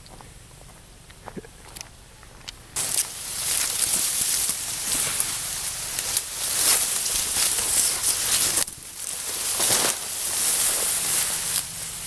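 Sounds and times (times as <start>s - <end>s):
dry grass and reeds rustling: 0.1s - 12.0s.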